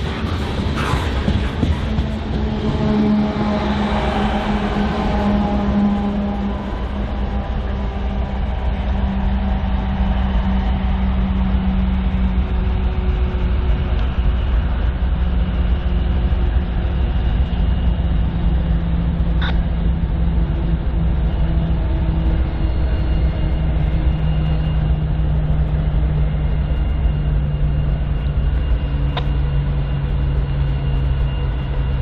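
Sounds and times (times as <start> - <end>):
diesel locomotive engine hum: 0.0 - 32.0
freight train cars rumbling: 0.0 - 32.0.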